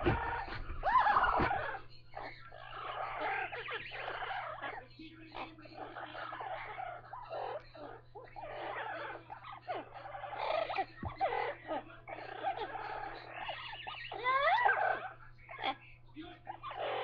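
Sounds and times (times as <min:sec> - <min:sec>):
parrots chattering and squawking: 0:00.0 - 0:17.0.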